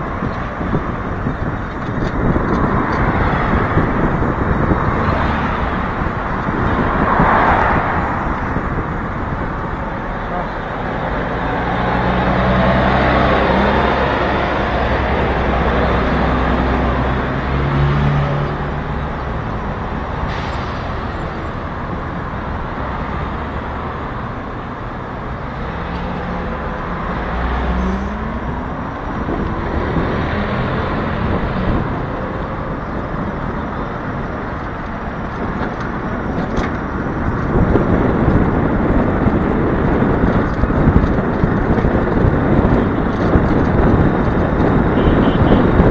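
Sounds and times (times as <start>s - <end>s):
traffic noise: 0.0s - 45.9s
vehicles passing: 0.0s - 45.9s.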